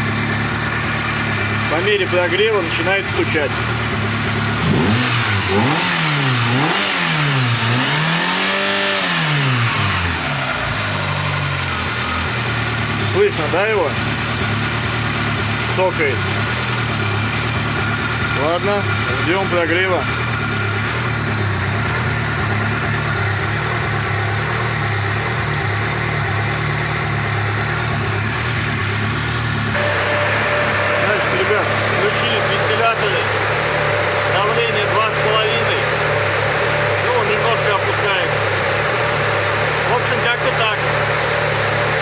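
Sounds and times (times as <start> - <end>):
car engine revving and idling: 0.0 - 42.0
engine tapping: 0.0 - 42.0.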